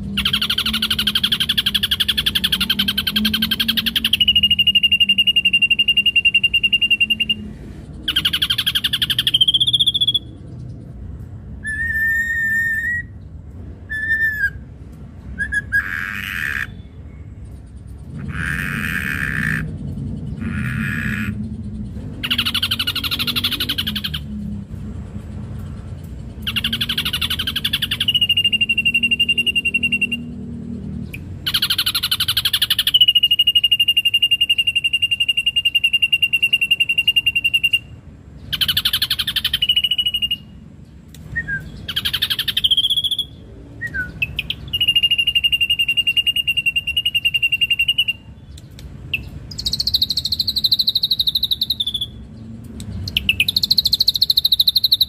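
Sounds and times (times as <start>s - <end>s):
bird singing buzzy and whistled notes: 0.0s - 55.0s.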